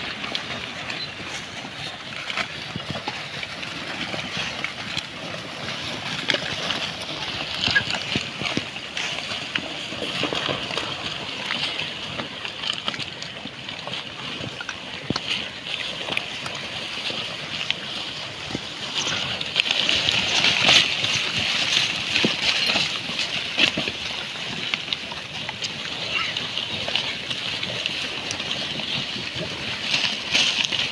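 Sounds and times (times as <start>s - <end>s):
pigs chewing and rooting: 0.0s - 30.9s.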